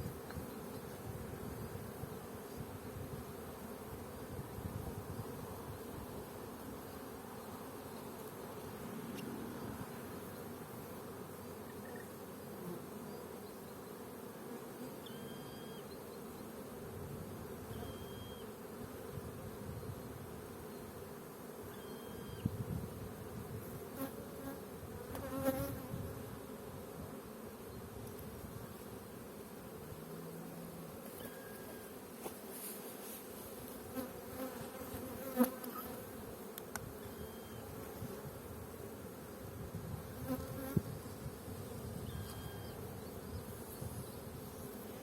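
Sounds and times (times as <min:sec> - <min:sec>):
honeybees buzzing: 0:00.0 - 0:45.0.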